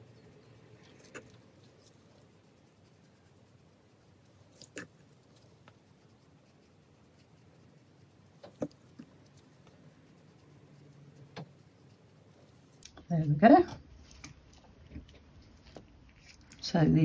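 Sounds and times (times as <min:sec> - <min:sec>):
paintbrush on paper: 0:00.0 - 0:17.0.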